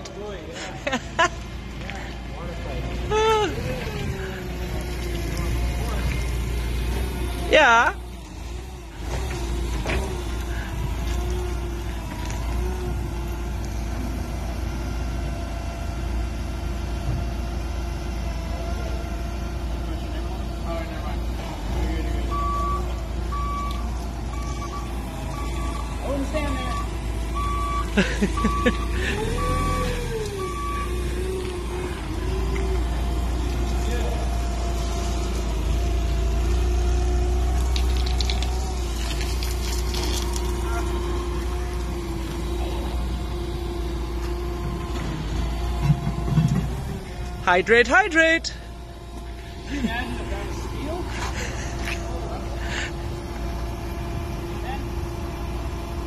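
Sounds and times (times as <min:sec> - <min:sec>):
forklift engine humming: 0:00.0 - 0:56.0.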